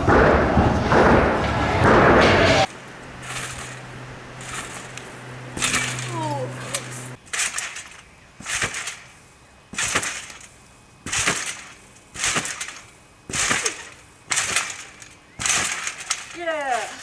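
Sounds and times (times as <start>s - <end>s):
trampoline landing: 0.0s - 17.0s.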